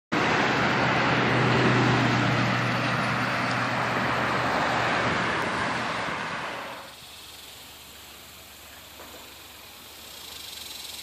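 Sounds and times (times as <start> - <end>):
highway traffic: 0.1 - 11.0
low engine hum: 0.1 - 11.0.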